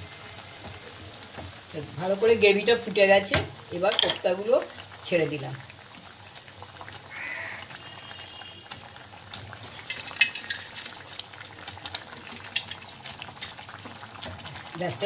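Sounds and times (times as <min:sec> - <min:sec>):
gravy boiling with popping bubbles: 0:00.0 - 0:15.0.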